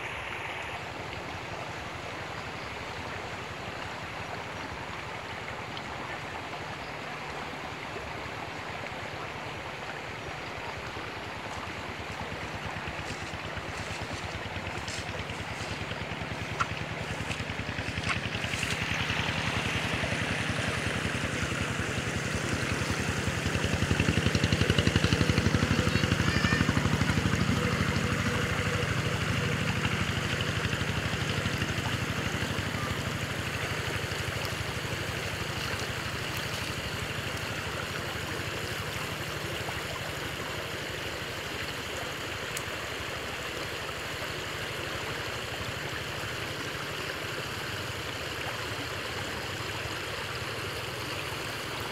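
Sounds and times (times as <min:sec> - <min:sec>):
creek water running: 0:00.0 - 0:51.9.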